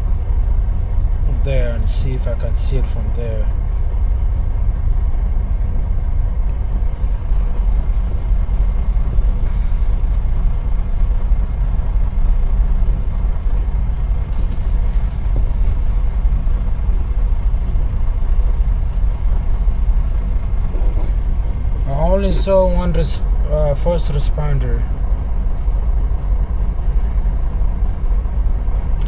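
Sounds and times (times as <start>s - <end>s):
truck diesel engine idling: 0.0s - 29.0s.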